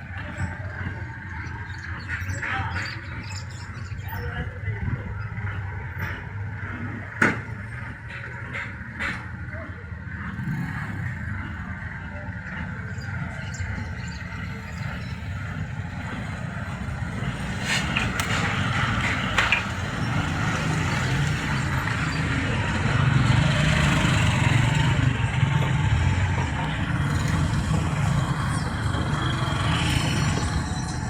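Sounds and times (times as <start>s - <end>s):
traffic noise: 0.0s - 31.0s
vehicle engine running: 0.0s - 31.0s.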